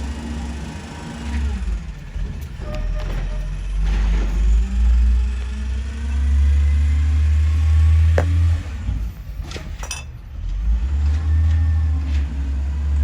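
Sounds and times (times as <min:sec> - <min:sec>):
garbage truck engine rumbling: 0:00.0 - 0:10.8.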